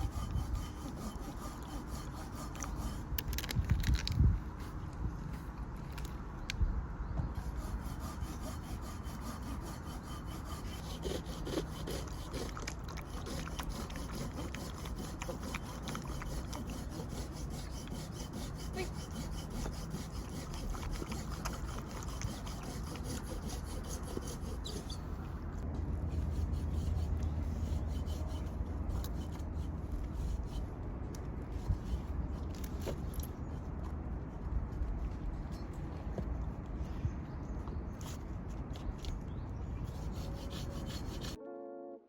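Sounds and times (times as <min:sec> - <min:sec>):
scraping strokes on wood: 0:00.0 - 0:03.6, 0:07.4 - 0:36.2, 0:39.8 - 0:41.4.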